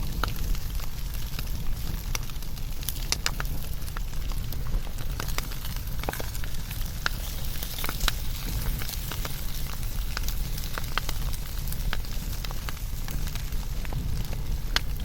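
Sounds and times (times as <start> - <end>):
fire crackling and popping: 0.0 - 15.0
wood fire rumbling and hissing: 0.0 - 15.0.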